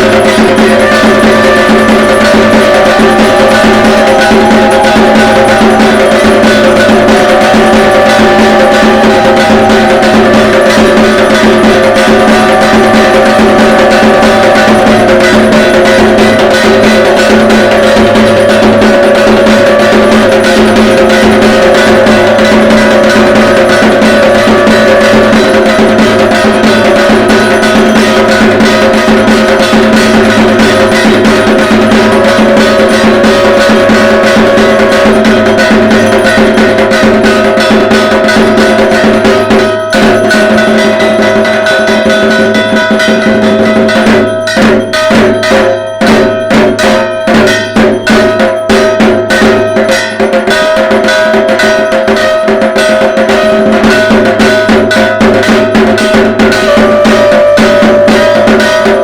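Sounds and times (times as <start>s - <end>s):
barrel drum fast rhythm: 0.0s - 59.0s
metal percussion ringing: 0.0s - 59.0s.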